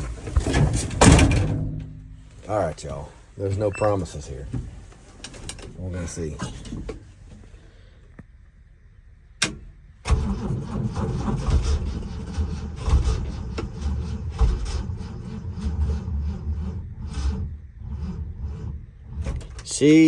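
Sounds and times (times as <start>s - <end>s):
truck engine cranking on starter: 0.0s - 5.7s, 9.4s - 20.0s.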